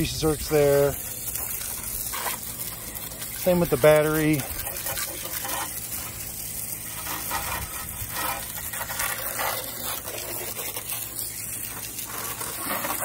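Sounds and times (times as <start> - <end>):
garden hose spray hissing: 0.0 - 13.0.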